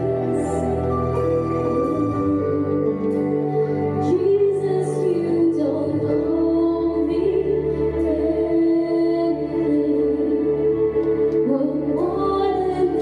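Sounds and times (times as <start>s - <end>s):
held keyboard chords: 0.0s - 13.0s
woman singing into microphone: 0.0s - 13.0s
worship band playing: 0.0s - 13.0s.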